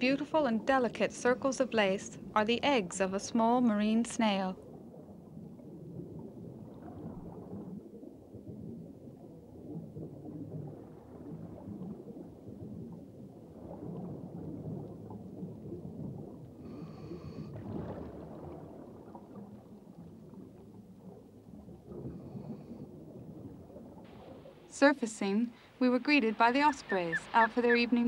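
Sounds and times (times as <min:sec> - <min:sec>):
underwater churning water: 0:00.0 - 0:24.8.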